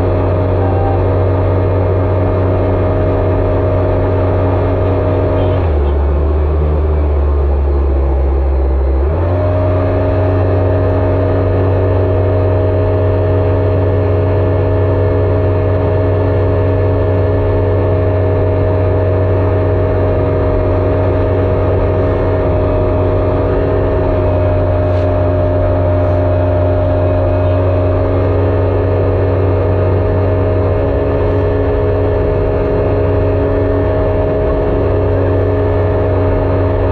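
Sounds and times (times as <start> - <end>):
jet ski engine running: 0.0 - 36.9.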